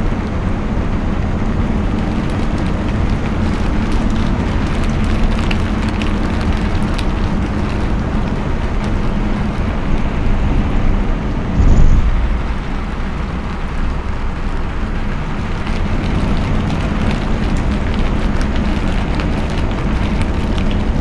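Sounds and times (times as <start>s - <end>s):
tyres rumbling on wet road: 0.0s - 21.0s.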